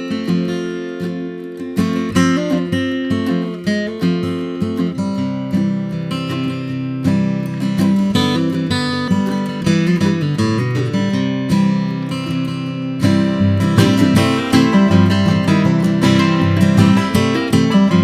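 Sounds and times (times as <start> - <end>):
acoustic guitar strumming and plucking: 0.0 - 18.0.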